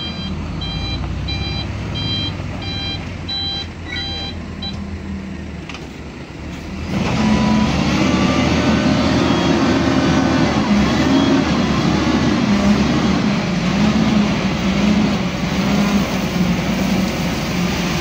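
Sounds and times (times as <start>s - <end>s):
dump truck diesel engine revving: 0.0s - 18.0s.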